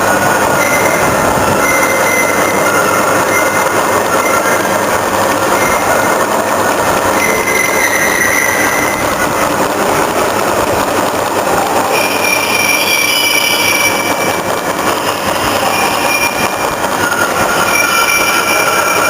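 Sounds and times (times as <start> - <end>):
high gear whine: 0.0 - 19.0.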